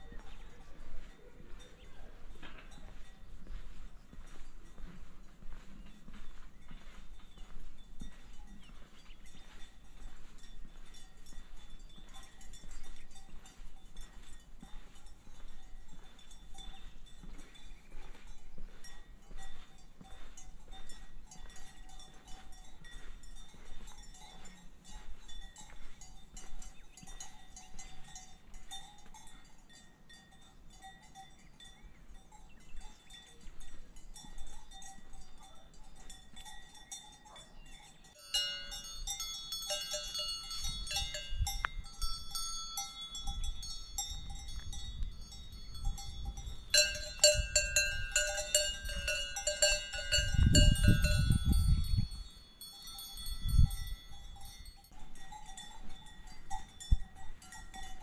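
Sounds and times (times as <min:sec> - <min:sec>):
cowbells clanking: 0:00.0 - 0:58.0.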